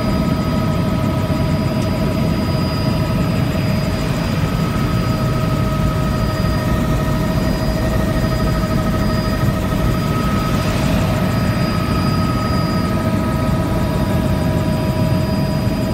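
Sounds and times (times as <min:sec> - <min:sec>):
helicopter rotor and engine drone: 0:00.0 - 0:15.9
high whines: 0:01.1 - 0:15.9.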